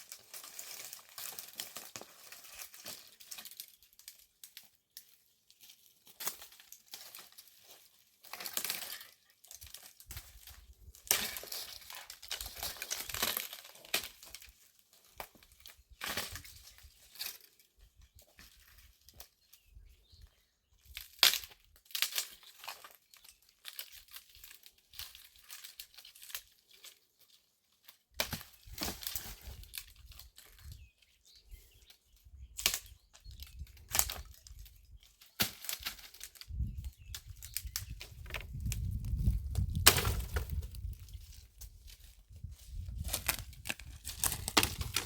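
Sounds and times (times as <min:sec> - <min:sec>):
rustling and crinkling: 0:00.0 - 0:19.9, 0:20.8 - 0:45.0.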